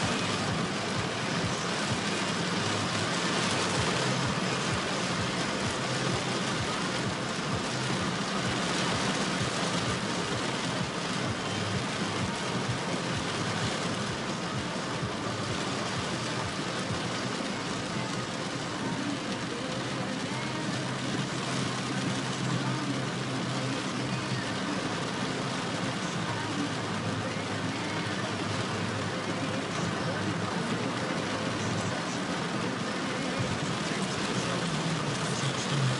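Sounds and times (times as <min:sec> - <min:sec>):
car engine and tyres: 0:00.0 - 0:35.9
rain beating on car roof: 0:00.0 - 0:35.9.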